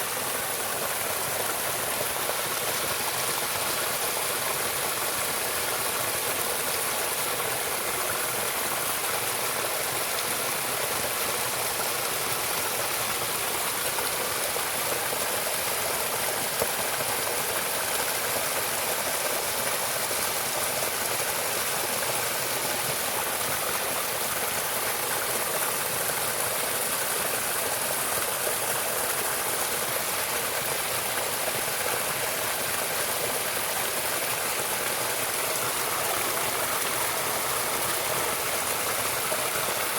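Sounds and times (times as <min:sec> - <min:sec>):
stream of water running: 0:00.0 - 0:39.9.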